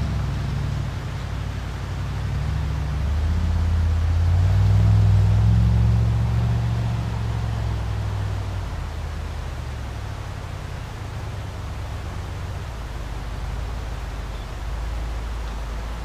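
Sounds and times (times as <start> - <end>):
truck engine driving: 0.0 - 16.0.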